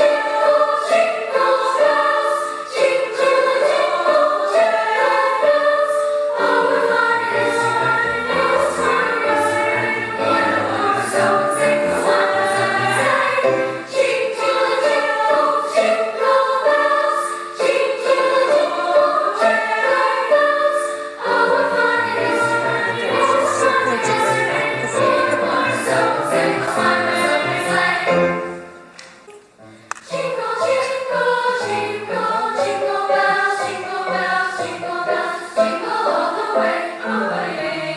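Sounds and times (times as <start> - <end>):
choir singing with accompaniment: 0.0 - 37.9.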